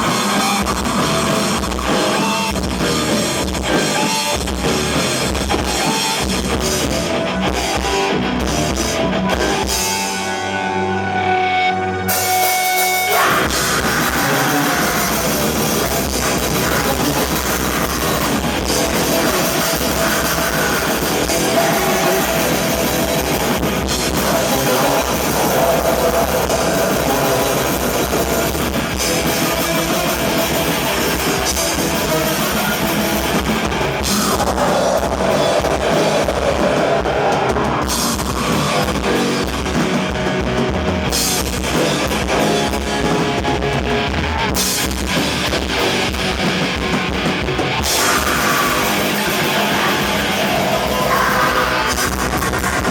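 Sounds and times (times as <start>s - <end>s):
metal band playing live: 0.0s - 52.9s.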